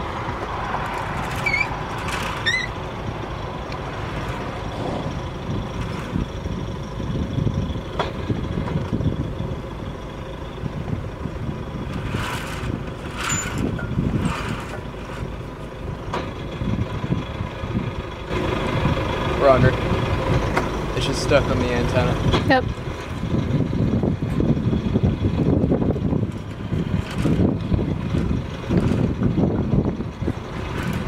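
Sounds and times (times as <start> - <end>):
low uneven rumble: 0.0 - 31.0.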